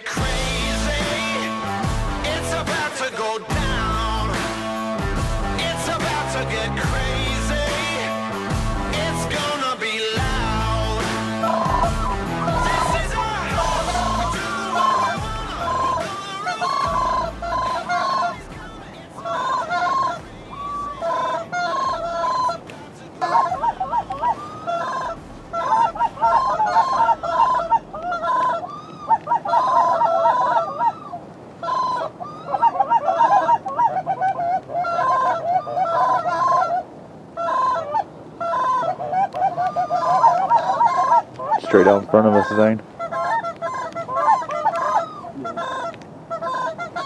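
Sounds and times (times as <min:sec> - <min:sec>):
geese honking: 0:00.0 - 0:47.0.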